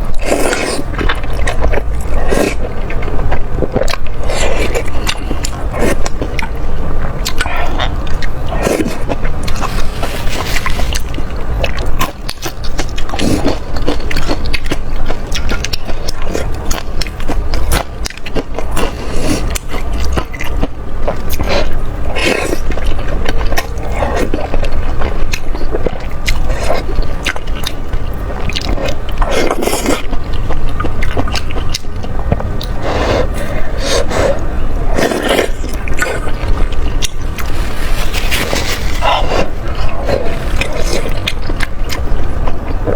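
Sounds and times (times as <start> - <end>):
close chewing and biting: 0.0 - 42.9.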